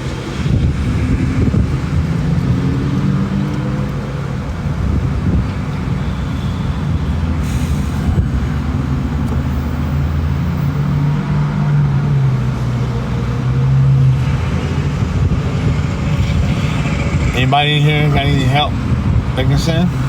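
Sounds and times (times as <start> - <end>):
engine hum: 0.0 - 20.0
traffic rumble: 0.0 - 20.0.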